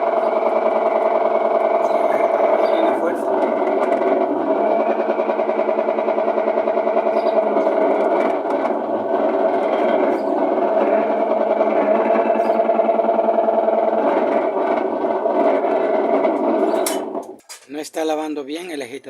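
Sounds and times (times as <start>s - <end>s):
washing machine motor pulsing hum: 0.0s - 17.4s.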